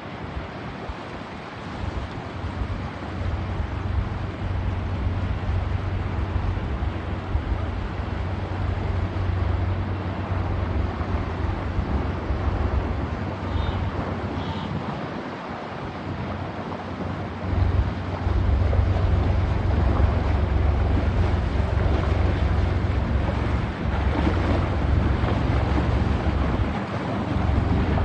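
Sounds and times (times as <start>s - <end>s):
steady rushing noise: 0.0s - 28.0s
wind buffeting microphone: 0.0s - 28.0s.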